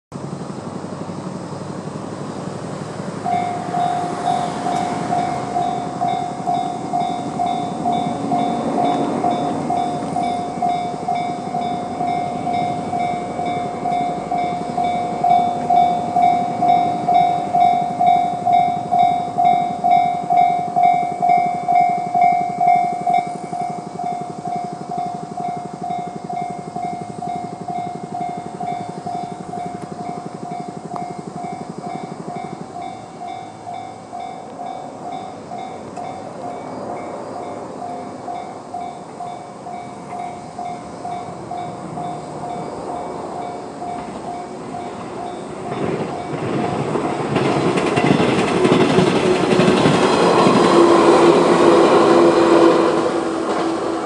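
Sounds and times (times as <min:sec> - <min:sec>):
level crossing warning bell: 0:03.2 - 0:54.0.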